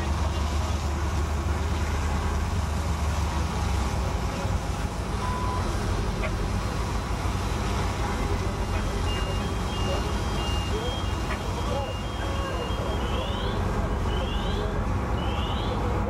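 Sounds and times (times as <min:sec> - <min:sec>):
water spraying from hose: 0:00.0 - 0:15.9
fire engine rumbling: 0:00.0 - 0:16.0.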